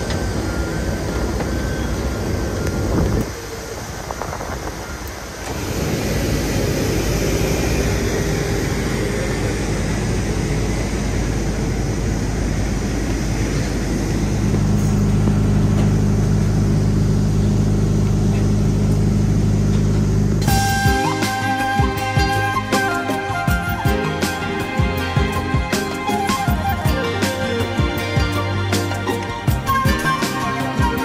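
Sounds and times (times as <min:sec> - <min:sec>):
bus engine idling: 0:00.0 - 0:31.0
steady mechanical rush: 0:00.0 - 0:31.0.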